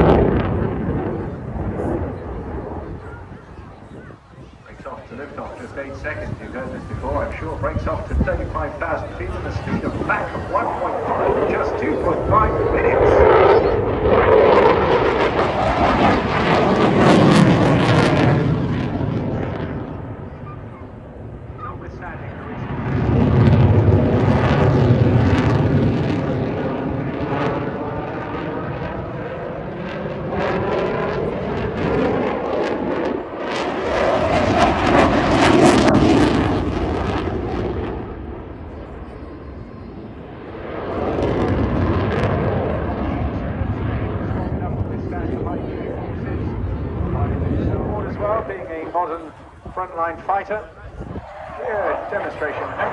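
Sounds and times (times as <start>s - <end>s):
jet flying past: 0.0s - 52.9s.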